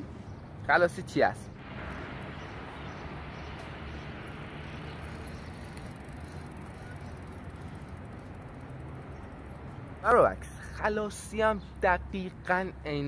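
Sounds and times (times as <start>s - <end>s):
low rumbling street ambience: 0.0s - 13.0s.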